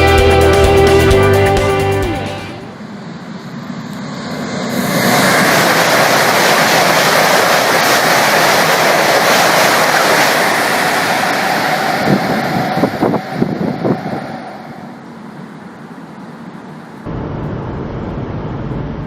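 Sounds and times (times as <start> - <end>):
high-speed train rushing past: 2.0 - 19.0.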